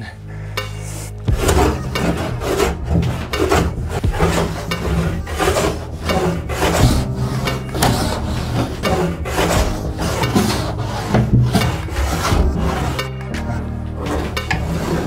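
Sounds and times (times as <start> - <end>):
hand plane shaving wood: 1.4 - 15.0.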